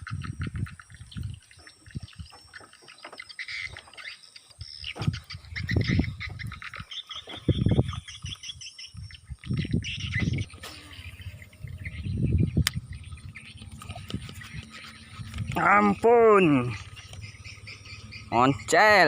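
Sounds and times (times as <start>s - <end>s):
faint birds chirping: 0.0s - 19.0s
frogs croaking: 0.0s - 19.0s.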